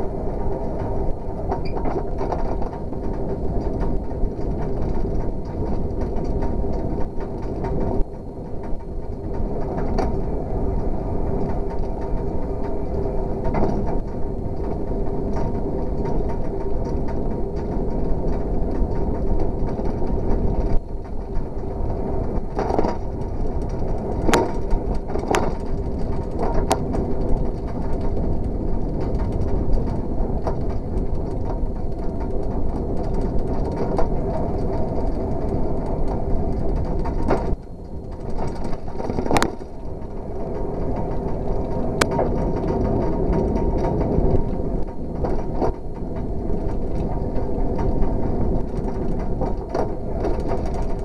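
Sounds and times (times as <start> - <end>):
bicycle tyres rolling on asphalt: 0.0 - 51.0
sharp clicks and rattles: 0.2 - 51.0.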